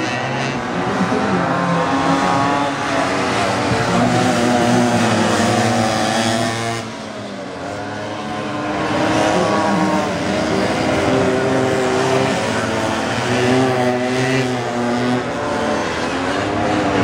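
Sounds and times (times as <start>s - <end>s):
small motorbike engines buzzing: 0.0s - 17.0s.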